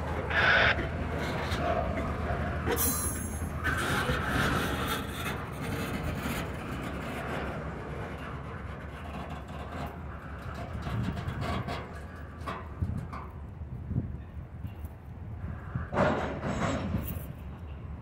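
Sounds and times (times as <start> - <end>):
diesel locomotive rumble: 0.0 - 18.0.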